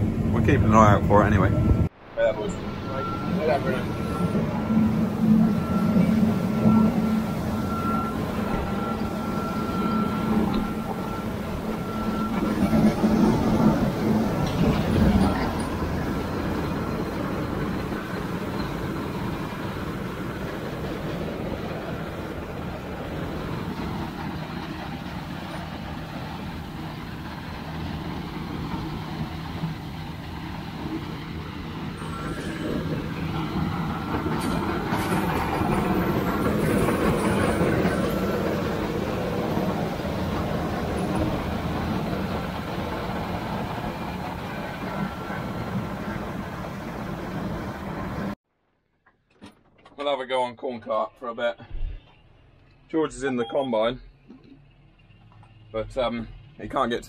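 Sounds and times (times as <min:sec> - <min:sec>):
combine harvester drone: 0:00.0 - 0:48.4
heavy diesel machinery rumbling: 0:00.0 - 0:48.4, 0:50.9 - 0:57.0.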